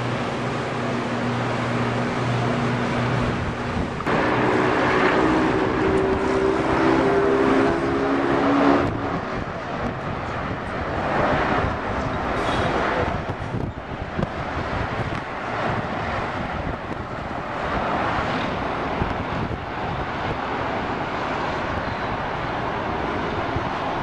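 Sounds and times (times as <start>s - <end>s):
engine humming: 0.0s - 24.0s
outdoor noise: 0.0s - 24.0s.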